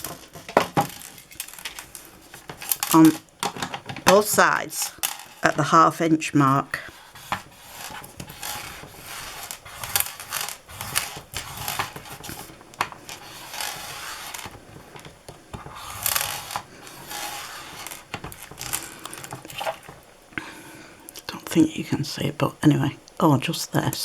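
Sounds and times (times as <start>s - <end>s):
scoring tool scraping card: 0.0s - 5.8s, 6.4s - 20.3s
paper rustling: 0.0s - 22.0s.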